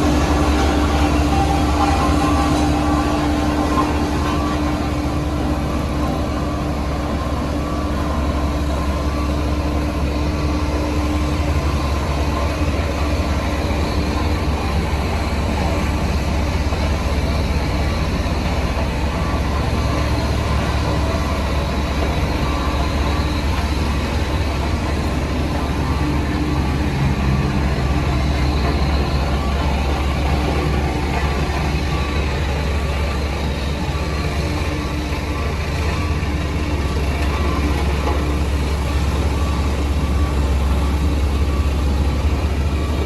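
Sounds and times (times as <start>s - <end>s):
heavy diesel machinery rumbling: 0.0s - 43.0s
steady hum: 0.0s - 43.0s.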